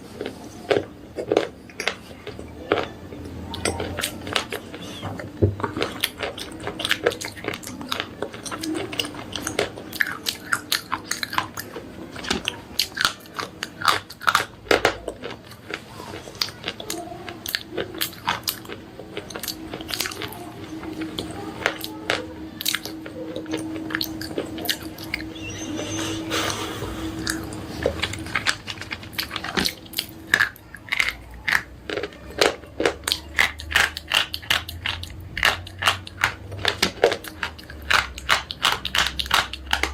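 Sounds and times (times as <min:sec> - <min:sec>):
pencils being bitten and crunched: 0:00.0 - 0:25.8, 0:27.1 - 0:39.9.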